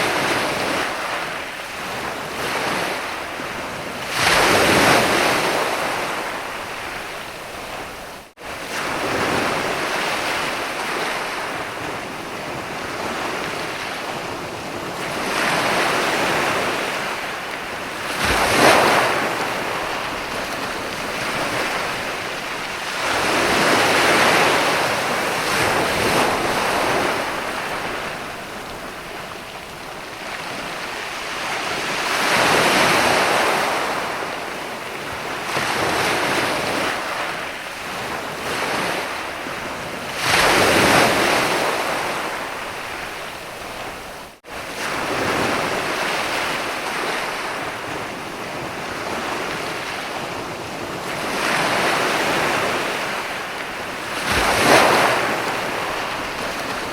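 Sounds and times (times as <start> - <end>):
waves breaking on beach: 0.0 - 56.9.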